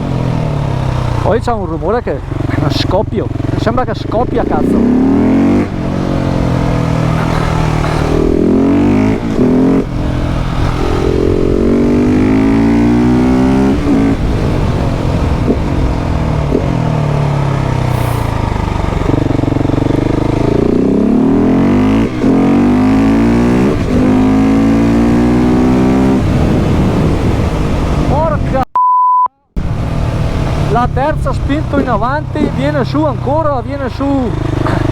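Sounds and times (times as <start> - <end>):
motorcycle engine revving: 0.0 - 28.4, 29.6 - 34.9.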